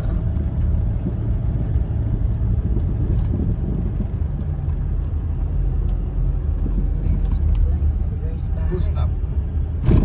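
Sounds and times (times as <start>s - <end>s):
road noise: 0.0s - 10.0s
vehicle engine rumble: 0.0s - 10.0s.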